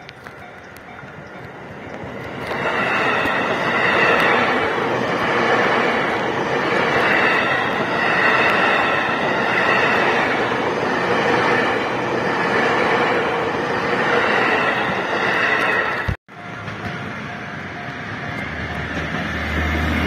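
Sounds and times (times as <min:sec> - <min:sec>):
distant train noise: 0:00.0 - 0:20.0
electric train passing: 0:00.0 - 0:20.0.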